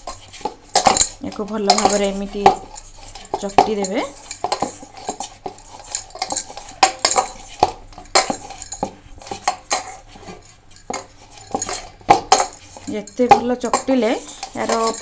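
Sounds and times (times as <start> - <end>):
bangles clinking: 0.0 - 15.0
dough kneaded in steel bowl: 0.0 - 15.0.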